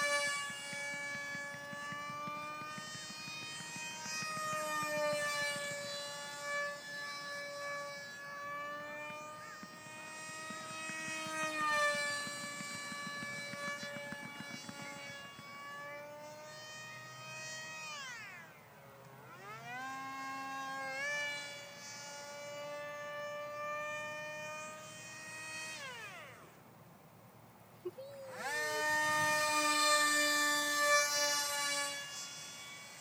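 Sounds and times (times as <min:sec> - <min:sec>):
model plane motor whining: 0:00.0 - 0:26.7, 0:27.8 - 0:33.0.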